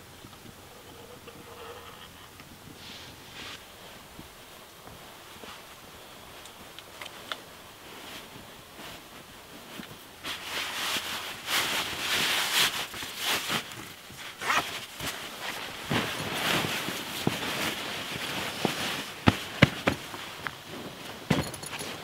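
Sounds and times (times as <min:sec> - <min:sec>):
crinkly nylon sleeping bag: 0:00.0 - 0:22.0
fabric rustling: 0:00.0 - 0:22.0.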